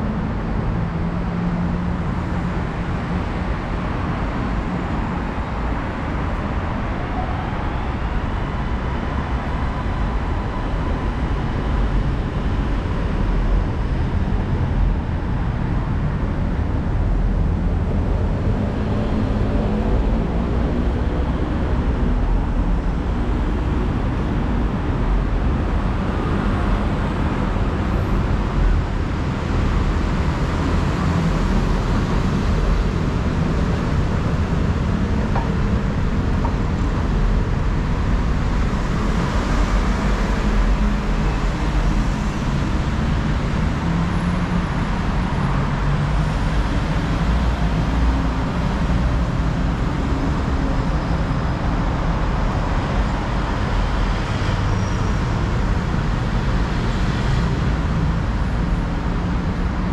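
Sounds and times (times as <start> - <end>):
low rumble of road traffic: 0.0 - 59.9.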